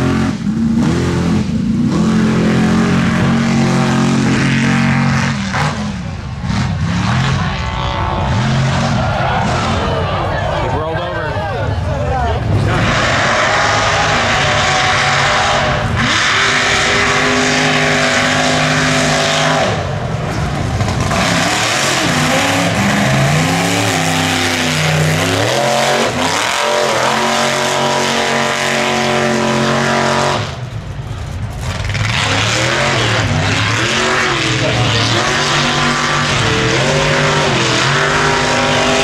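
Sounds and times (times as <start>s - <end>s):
truck engine revving hard: 0.0s - 11.0s, 11.7s - 39.0s
tyres spinning through dirt: 2.5s - 39.0s.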